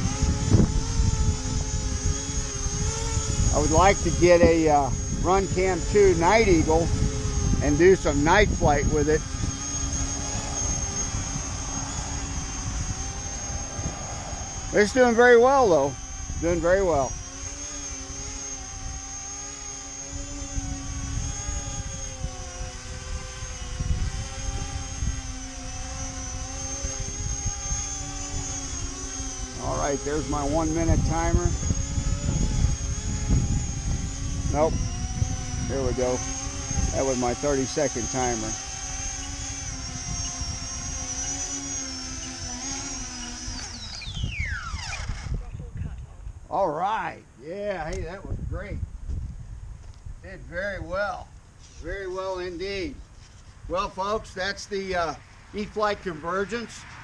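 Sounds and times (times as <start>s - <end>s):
wind buffeting microphone: 0.0s - 46.6s, 47.6s - 55.1s
electric motors and propellers whining: 0.0s - 57.0s.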